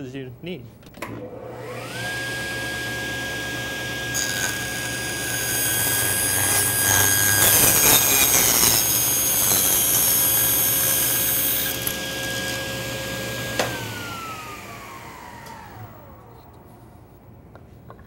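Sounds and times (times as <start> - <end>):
table saw cutting wood: 1.2 - 16.6.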